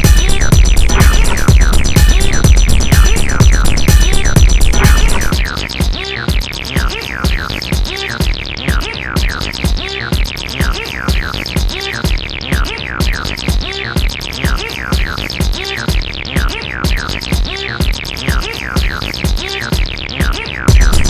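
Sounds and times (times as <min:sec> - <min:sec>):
drum machine beat: 0:00.0 - 0:21.0.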